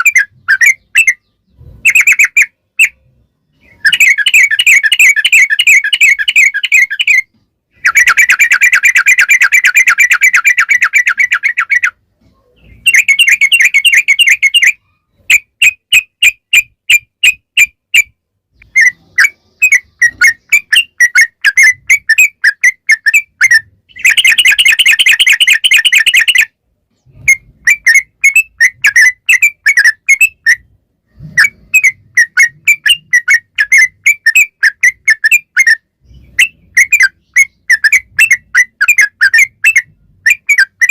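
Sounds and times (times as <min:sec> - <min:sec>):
bird rattling trills and chirps: 0:00.0 - 0:11.9, 0:12.6 - 0:17.7, 0:18.6 - 0:40.9.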